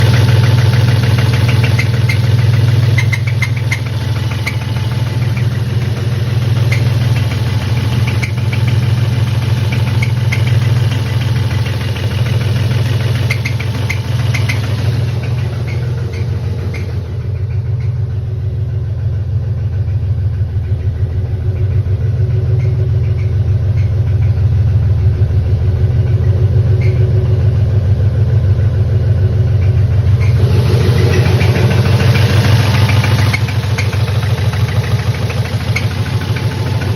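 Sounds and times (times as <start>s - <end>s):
sharp engine ticks: 0.0s - 18.5s, 19.7s - 24.8s, 29.2s - 36.9s
car engine running with knock: 0.0s - 36.9s.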